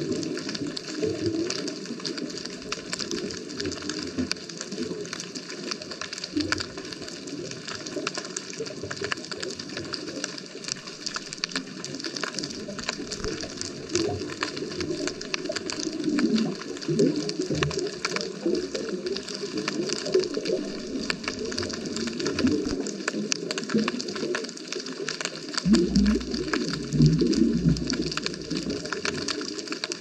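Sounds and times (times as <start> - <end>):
crackle of small clicks: 0.0 - 30.0
muffled underwater bubbling: 0.0 - 30.0.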